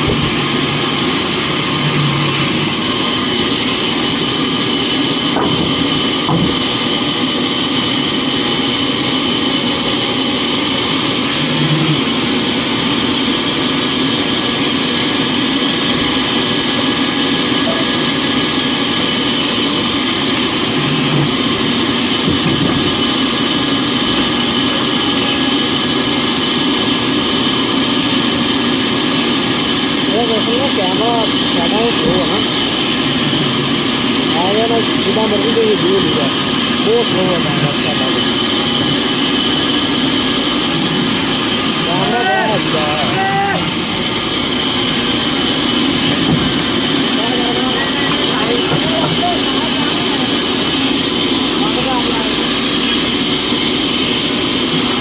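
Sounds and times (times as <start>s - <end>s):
machine motor whining: 0.0s - 55.0s.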